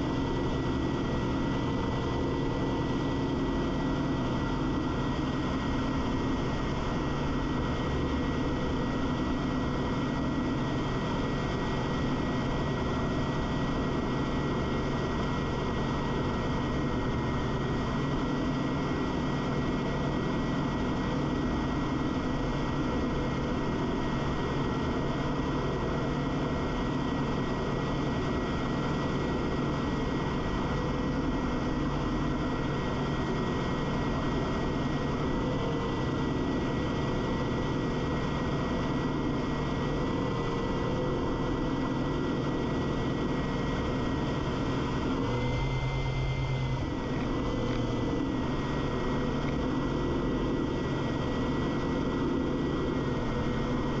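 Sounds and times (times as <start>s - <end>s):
ultralight engine and propeller drone: 0.0s - 54.0s.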